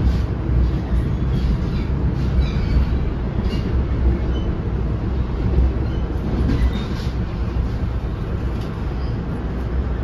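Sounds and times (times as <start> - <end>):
train coach rumbling on track: 0.0 - 10.0.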